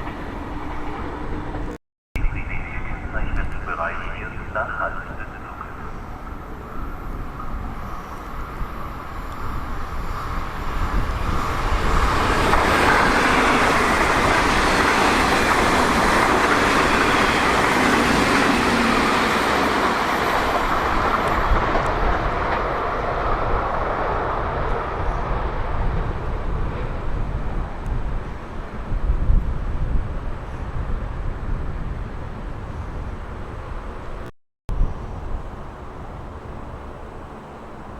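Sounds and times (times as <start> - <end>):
train passing: 0.0 - 34.2.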